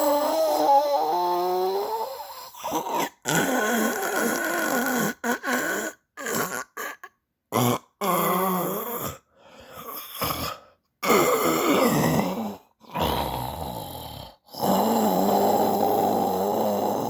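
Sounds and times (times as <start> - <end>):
person snoring: 0.0 - 17.0.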